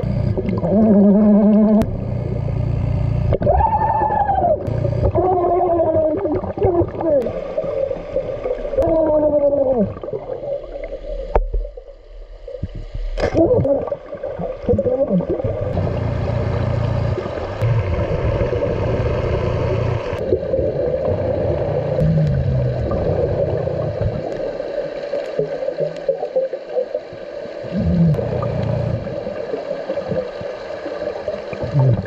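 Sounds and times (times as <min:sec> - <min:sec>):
diver's exhaled bubbles gurgling: 0:00.0 - 0:02.5, 0:03.1 - 0:11.8, 0:13.3 - 0:32.0
underwater droning hum: 0:00.0 - 0:32.0.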